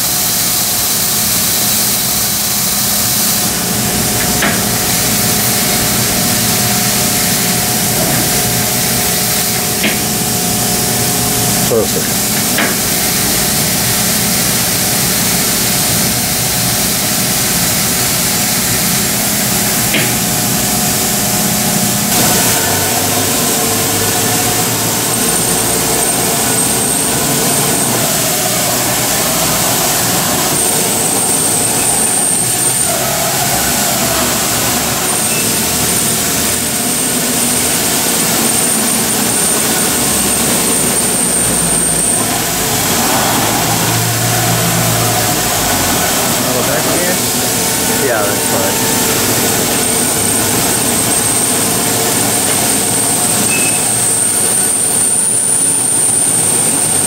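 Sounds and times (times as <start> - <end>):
laser cutter hiss and hum: 0.0 - 57.0
thin high whine: 0.0 - 57.0.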